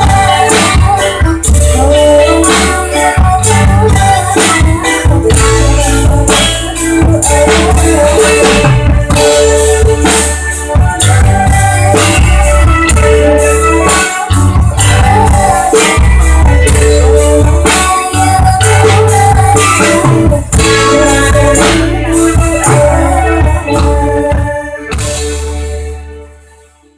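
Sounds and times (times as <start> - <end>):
drum kit beat: 0.0 - 26.4
heavy bass line: 0.0 - 26.7
guitar: 0.0 - 26.9.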